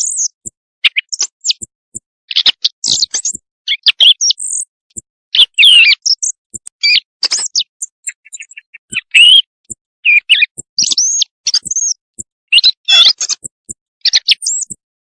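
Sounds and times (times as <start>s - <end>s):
recorded birdsong chirps and whistles: 0.0s - 15.0s.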